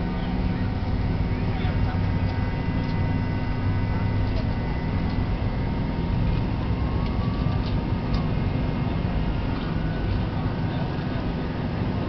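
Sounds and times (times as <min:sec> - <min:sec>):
jet engine drone: 0:00.0 - 0:12.0.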